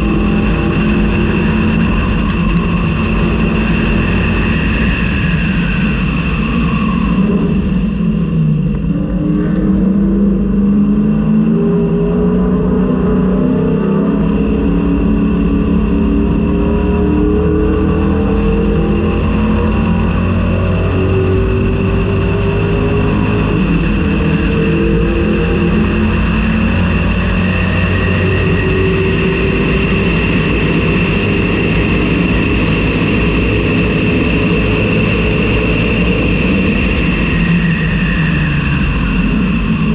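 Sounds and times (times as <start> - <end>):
race car engine accelerating: 0.0 - 39.9
steady high whine: 0.0 - 39.9.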